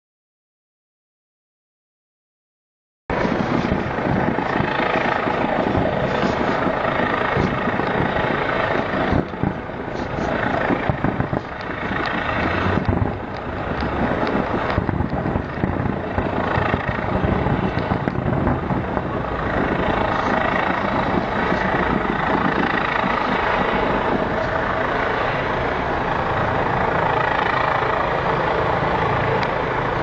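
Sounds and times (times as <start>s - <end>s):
fireworks bursting rumble: 3.1s - 29.8s.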